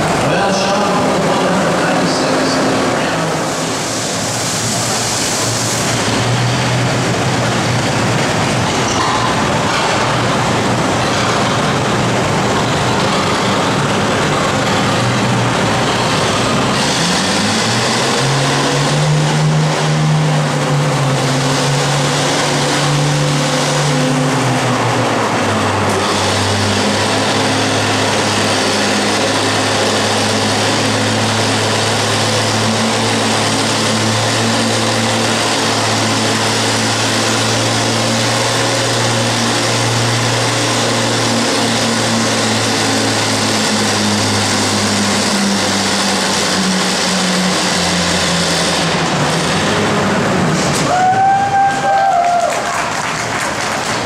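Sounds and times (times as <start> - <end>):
tractor engine idling and revving: 0.0 - 54.0.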